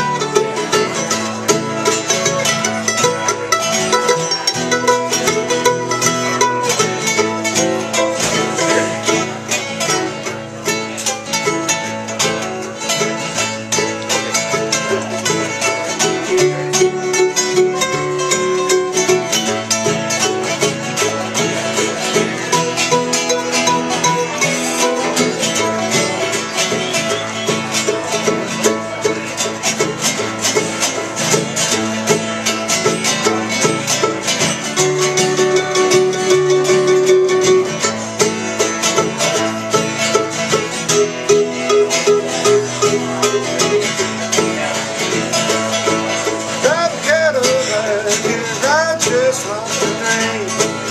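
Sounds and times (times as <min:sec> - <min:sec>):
bluegrass banjo music: 0:00.0 - 0:50.9.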